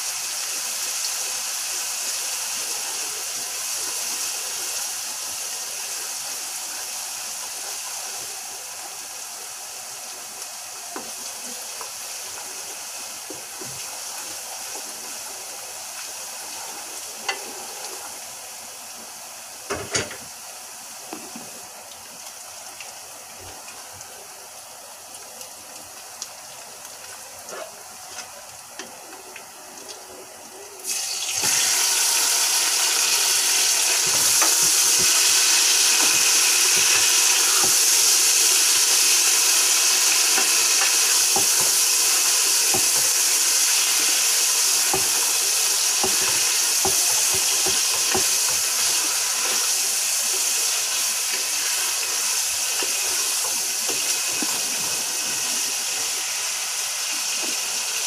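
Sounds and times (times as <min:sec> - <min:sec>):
meat sizzling loudly: 0:00.0 - 0:30.0, 0:30.6 - 0:58.0
onion frying in oil: 0:00.0 - 0:58.0.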